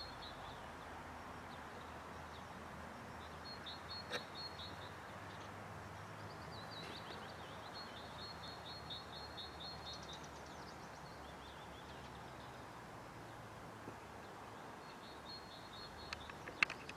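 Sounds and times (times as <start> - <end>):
faint outdoor background noise: 0.0 - 16.9.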